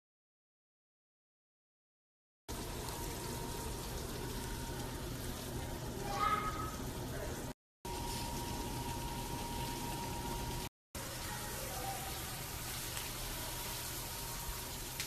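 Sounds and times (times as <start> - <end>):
asparagus sizzling in a pan: 2.5 - 15.0.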